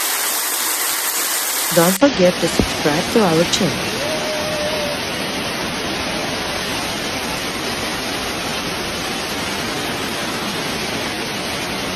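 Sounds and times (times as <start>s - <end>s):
heavy rain hissing: 0.0s - 11.9s.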